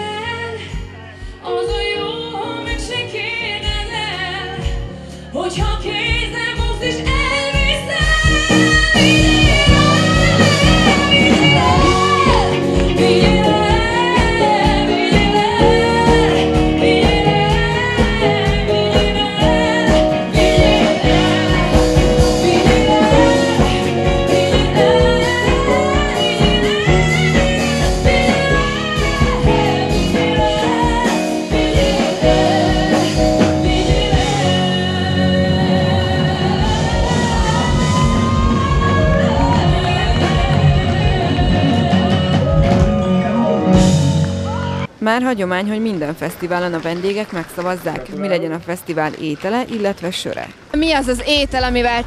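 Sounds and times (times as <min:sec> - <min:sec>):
woman singing pop song: 0:00.0 - 0:44.9
full band playing: 0:00.0 - 0:52.0.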